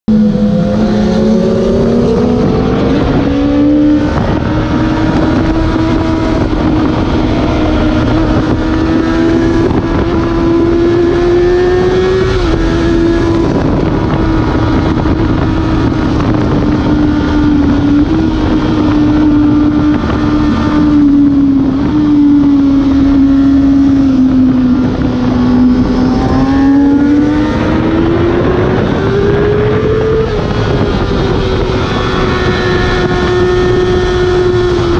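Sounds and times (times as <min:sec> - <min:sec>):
motorcycle engine at high revs: 0:00.1 - 0:34.9
wind rush: 0:00.1 - 0:34.9.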